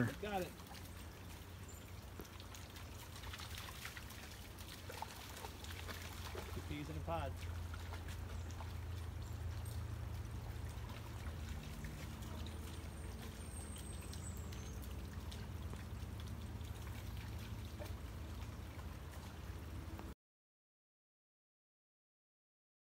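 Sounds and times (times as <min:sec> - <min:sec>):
dogs splashing through water: 0:00.0 - 0:20.1
low steady hum: 0:00.0 - 0:20.1
creek trickling over stones: 0:00.0 - 0:20.2.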